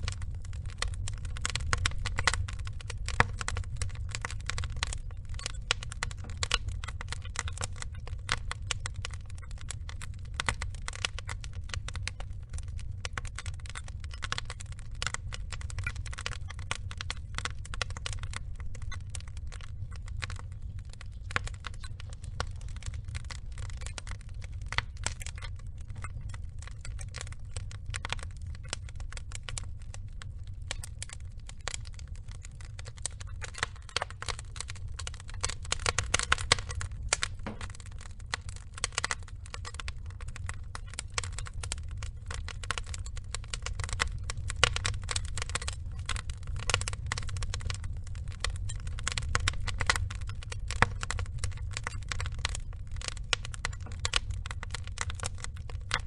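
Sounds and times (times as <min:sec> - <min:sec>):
log fire crackling: 0:00.0 - 0:56.0
low rumble of fire: 0:00.0 - 0:56.0.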